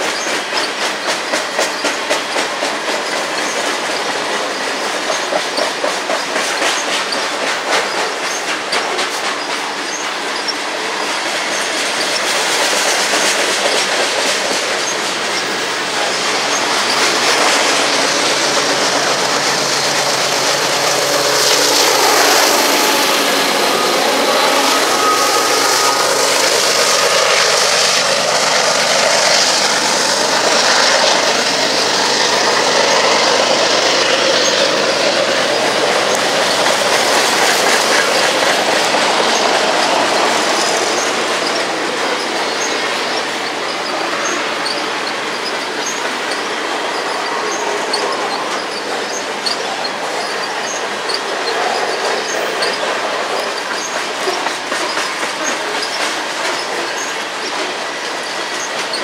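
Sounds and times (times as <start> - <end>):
diesel locomotive engine drone: 0.0 - 59.0
train wheels clacking on rails: 0.0 - 59.0
wheel squeal: 0.0 - 59.0.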